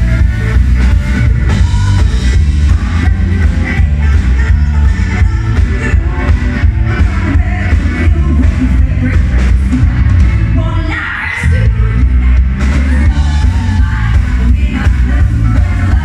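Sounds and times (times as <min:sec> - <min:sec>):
bass: 0:00.0 - 0:16.0
drums: 0:00.0 - 0:16.0
electric guitar: 0:00.0 - 0:16.0
man and woman singing: 0:01.6 - 0:16.0.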